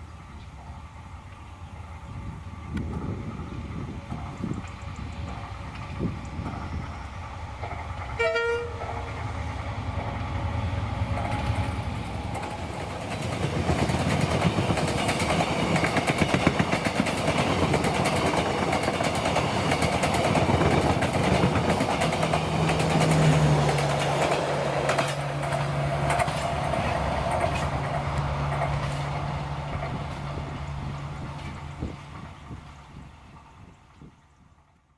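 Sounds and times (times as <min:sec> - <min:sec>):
train wheels rumbling on rails: 0:00.0 - 0:34.7.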